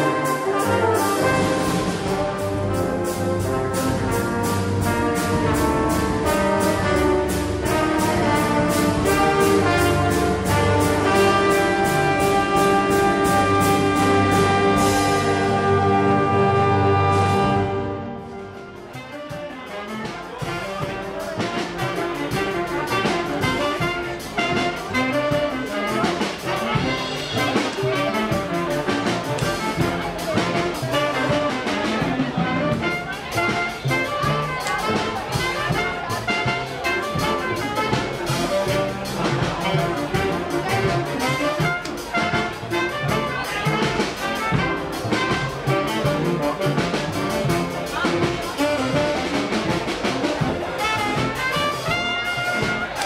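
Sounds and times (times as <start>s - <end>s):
small band playing live: 0.0s - 53.0s
steady drum beat: 0.0s - 53.0s.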